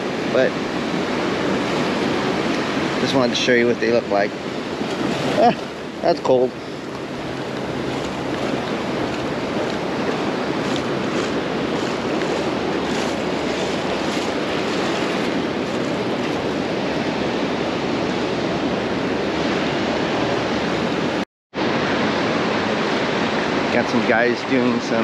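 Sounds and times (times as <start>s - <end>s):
ocean surf washing over sand: 0.0s - 25.0s.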